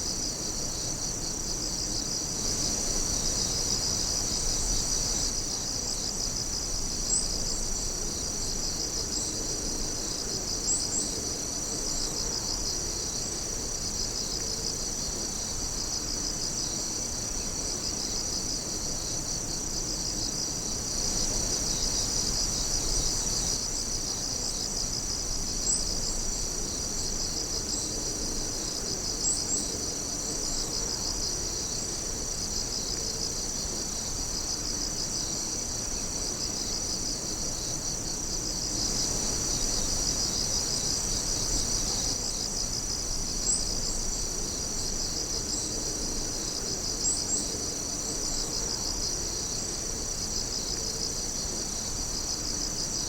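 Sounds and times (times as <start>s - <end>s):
crickets and night insects chirping: 0.0s - 53.0s.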